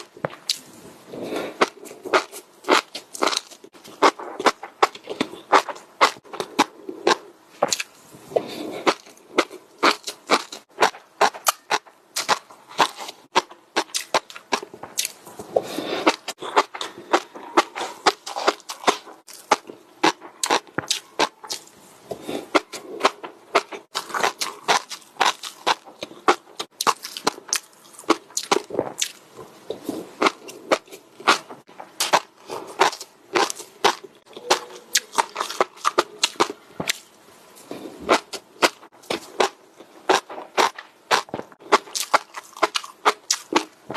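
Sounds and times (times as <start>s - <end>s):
crunchy eating: 0.0s - 43.9s.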